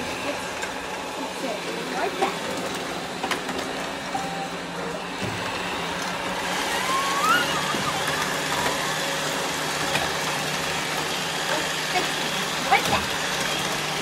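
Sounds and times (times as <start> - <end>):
robot vacuum cleaners humming: 0.0 - 14.0.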